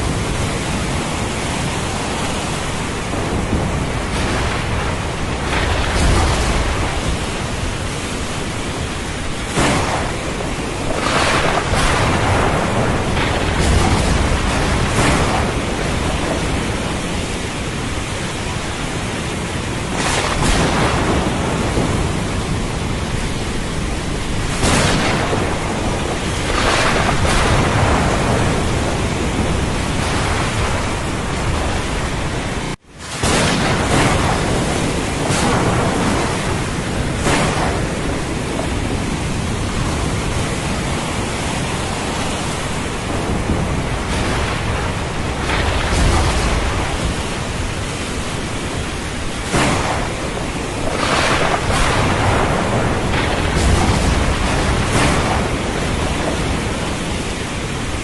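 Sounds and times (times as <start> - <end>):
rolling thunder: 0.0 - 58.0
steady rain hiss: 0.0 - 58.0.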